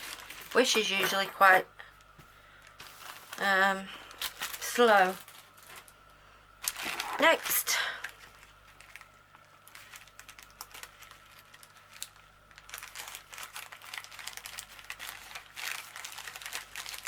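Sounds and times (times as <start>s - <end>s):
packaging crinkling: 0.0s - 1.3s, 2.6s - 6.0s, 6.6s - 17.0s.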